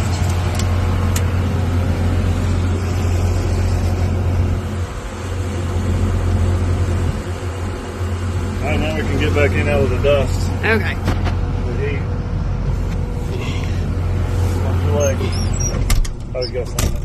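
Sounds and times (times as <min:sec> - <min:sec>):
harvester engine humming: 0:00.0 - 0:17.0.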